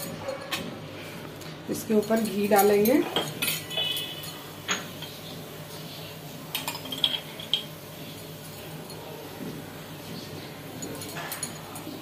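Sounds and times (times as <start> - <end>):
metal spoon clinking on utensils: 0.0 - 0.7, 1.4 - 9.4, 10.0 - 12.0.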